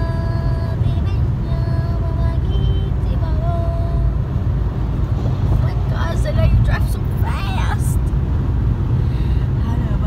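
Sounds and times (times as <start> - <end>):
car driving rumble: 0.0 - 10.0.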